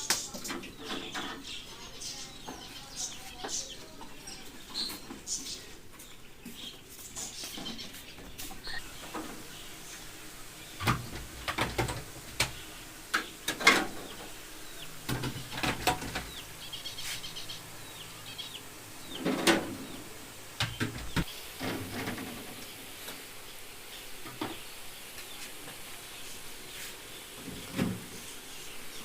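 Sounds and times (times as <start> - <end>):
faint bird chirping: 0.0 - 29.0.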